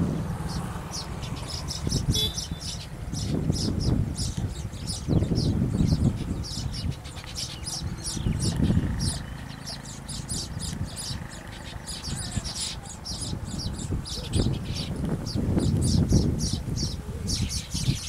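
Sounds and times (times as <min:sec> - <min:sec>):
birds chirping: 0:00.0 - 0:18.0
low microphone rumble: 0:00.0 - 0:18.0.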